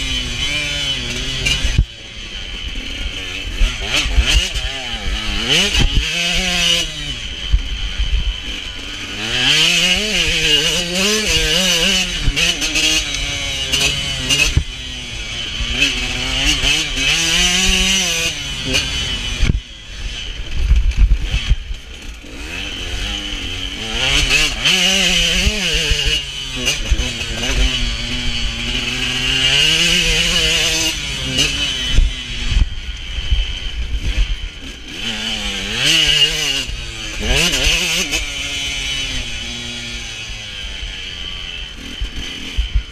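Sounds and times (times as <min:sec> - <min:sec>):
motocross engine revving: 0:00.0 - 0:42.9.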